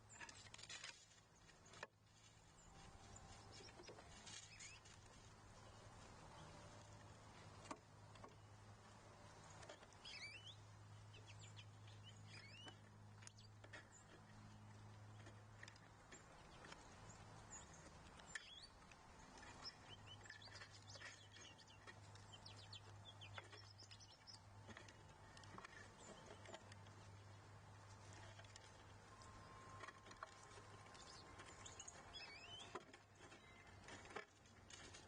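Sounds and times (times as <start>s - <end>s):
low steady hum: 0.0s - 35.0s
small birds chirping: 1.3s - 35.0s.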